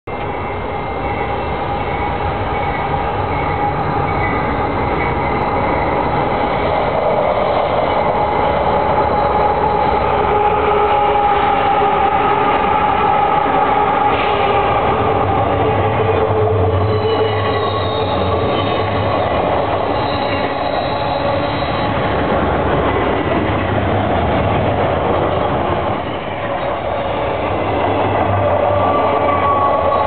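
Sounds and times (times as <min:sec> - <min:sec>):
diesel freight train passing: 0:00.1 - 0:30.0.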